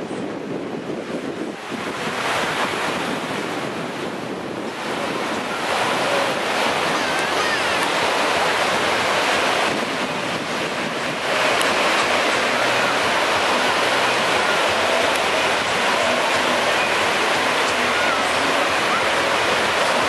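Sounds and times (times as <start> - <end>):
surf washing up a sandy shore: 0.0 - 20.0.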